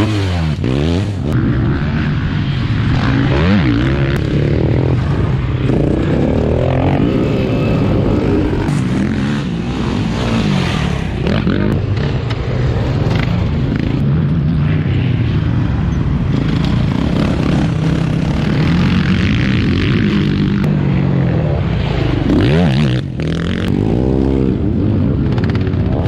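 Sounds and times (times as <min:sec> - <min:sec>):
off-road motorcycle engines revving: 0:00.0 - 0:26.0.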